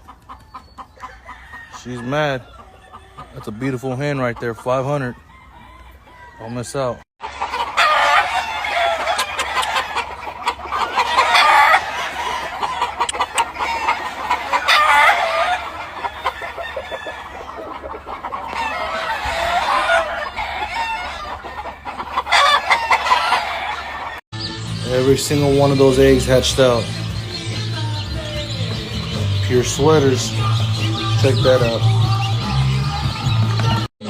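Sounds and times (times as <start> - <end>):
hens clucking: 0.0 - 33.9
roosters crowing: 0.0 - 33.9.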